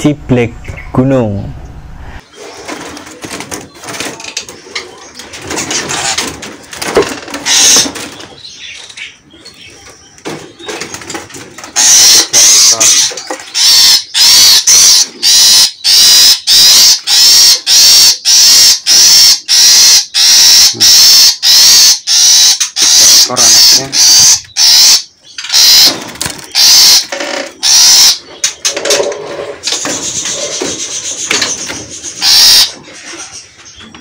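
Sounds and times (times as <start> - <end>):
caged bird calling loudly: 2.2 - 34.0.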